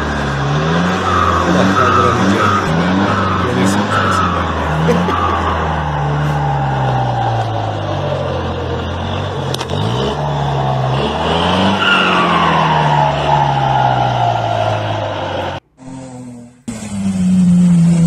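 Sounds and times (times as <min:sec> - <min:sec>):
high whine dropping in pitch: 0:00.0 - 0:18.0
vehicle engine revving: 0:00.0 - 0:18.0.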